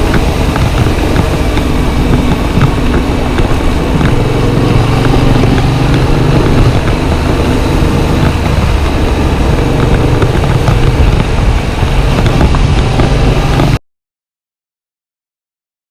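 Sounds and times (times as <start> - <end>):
motorcycle engine running: 0.0 - 13.8
road and wind noise: 0.0 - 13.8.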